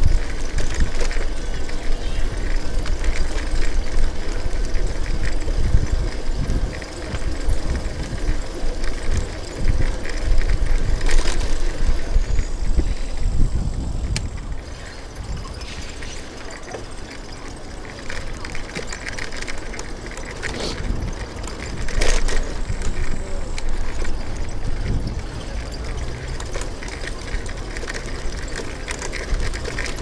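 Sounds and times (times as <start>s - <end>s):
city traffic rumble: 0.0s - 30.0s.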